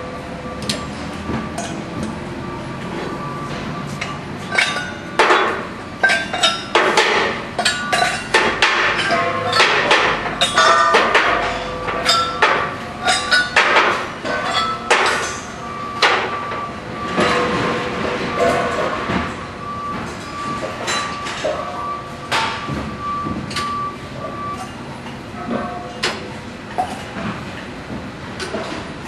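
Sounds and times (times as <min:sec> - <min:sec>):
metal cylinders clanking: 0:00.0 - 0:27.7.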